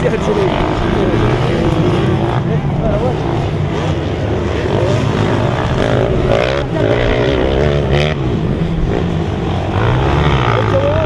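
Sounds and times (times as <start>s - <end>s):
motocross motorcycle engines revving: 0.0s - 11.0s.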